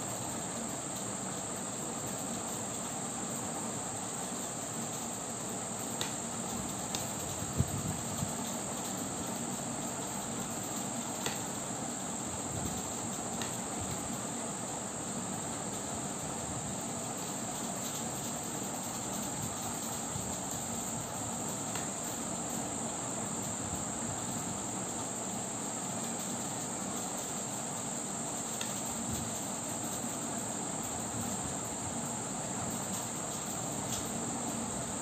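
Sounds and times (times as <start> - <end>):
constant hiss: 0.0 - 35.0.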